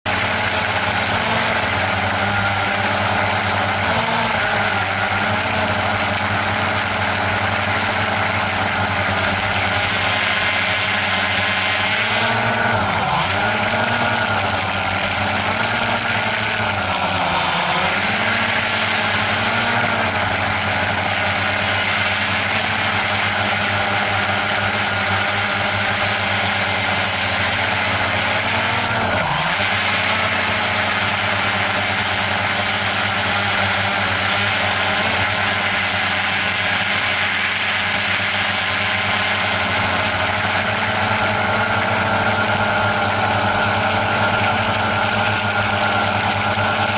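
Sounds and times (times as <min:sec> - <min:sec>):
drone propellers whining: 0:00.1 - 0:46.9.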